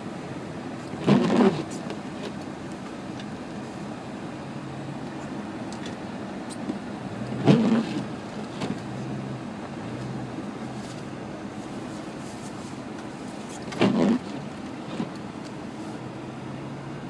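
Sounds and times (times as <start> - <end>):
car engine running: 0.0 - 17.0
road and wind noise: 0.0 - 17.0.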